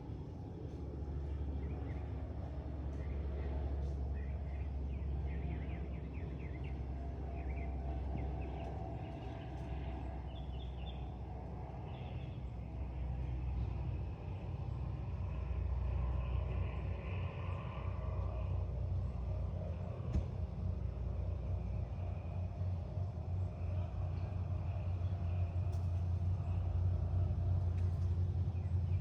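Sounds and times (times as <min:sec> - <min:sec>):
low vehicle rumble: 0:00.0 - 0:29.0.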